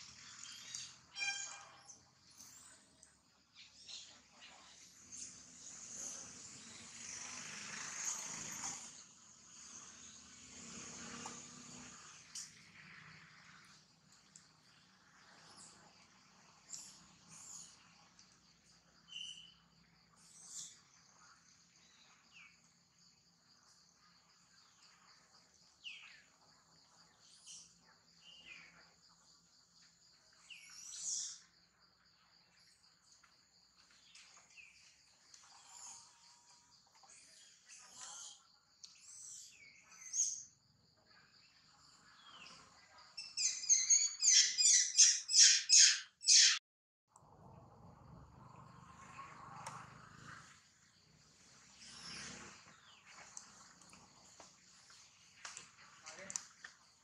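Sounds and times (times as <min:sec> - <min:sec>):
insects droning: 0:01.9 - 0:43.5, 0:47.8 - 0:57.0.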